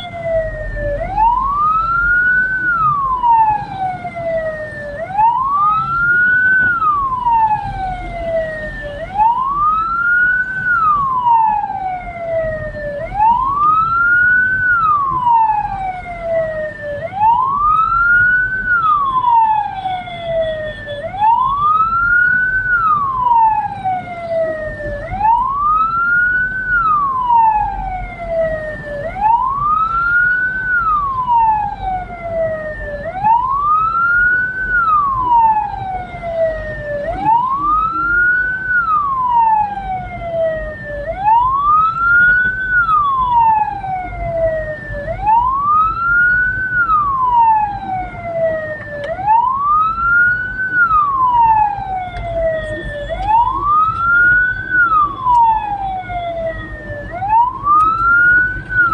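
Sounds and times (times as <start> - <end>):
electronic wail siren: 0.0 - 58.9
engine and road noise: 0.0 - 58.9.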